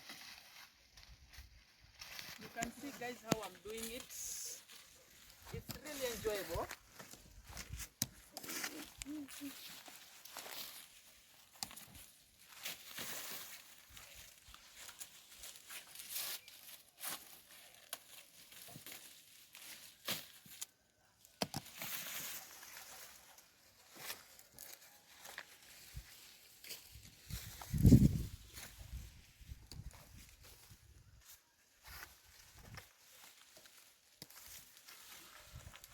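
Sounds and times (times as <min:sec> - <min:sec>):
dry leaves rustling and crackling: 0:00.0 - 0:20.9, 0:21.6 - 0:35.9.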